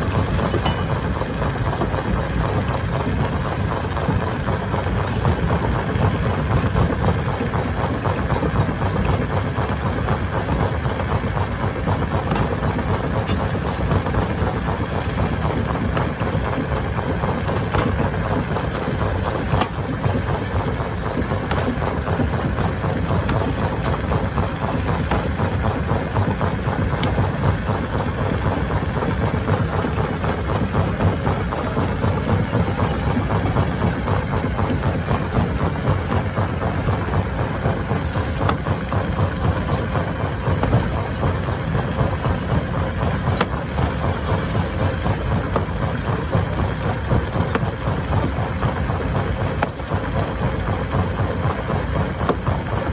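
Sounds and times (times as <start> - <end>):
stone crusher machine rumbling: 0.0 - 52.9.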